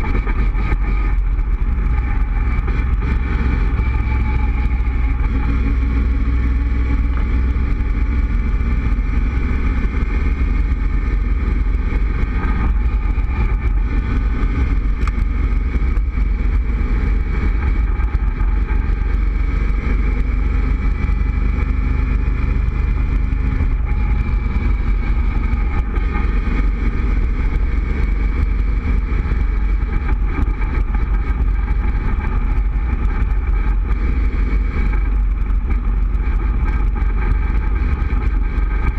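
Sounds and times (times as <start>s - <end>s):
car engine running evenly: 0.0s - 38.9s
wind buffeting open car: 0.0s - 38.9s.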